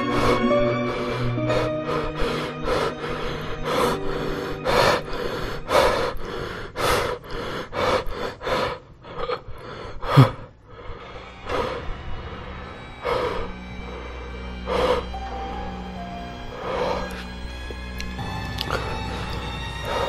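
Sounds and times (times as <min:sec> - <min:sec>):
person panting and gasping: 0:00.0 - 0:20.0.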